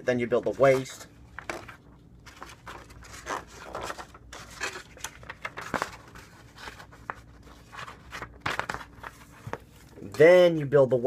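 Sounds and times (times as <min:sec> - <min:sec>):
paper and cardboard rustling: 0:00.2 - 0:10.6.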